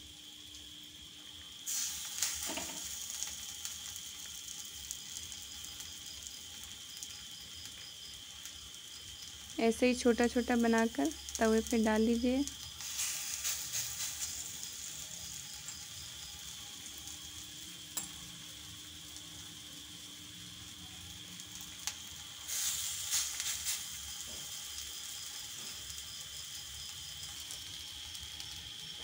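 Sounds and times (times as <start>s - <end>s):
patties sizzling on a griddle: 0.0s - 29.0s.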